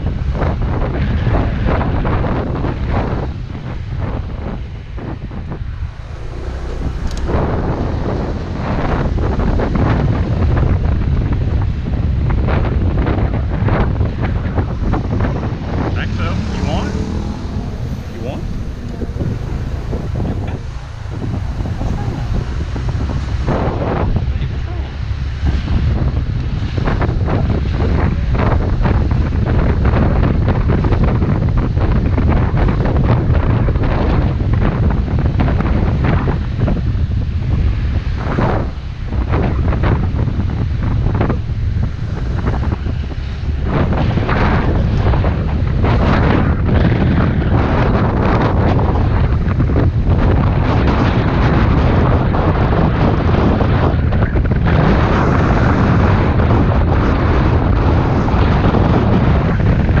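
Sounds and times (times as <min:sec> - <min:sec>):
road noise: 0:00.0 - 1:00.0
traffic: 0:00.0 - 1:00.0
wind buffeting microphone: 0:00.0 - 1:00.0.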